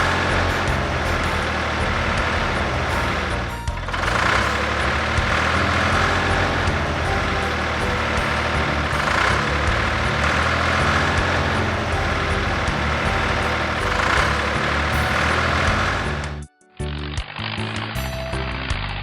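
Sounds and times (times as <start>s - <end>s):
truck engine running loudly: 0.0s - 19.0s.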